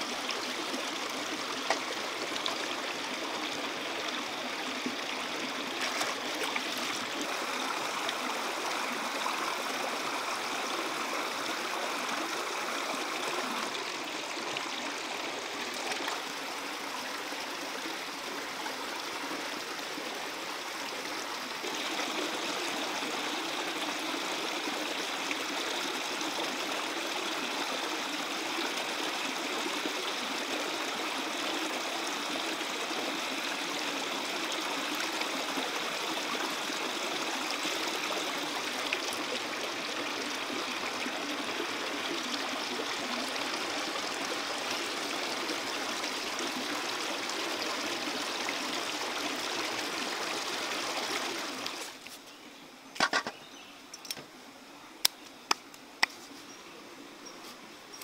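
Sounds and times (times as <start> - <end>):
creek water rushing over stones: 0.0 - 58.0.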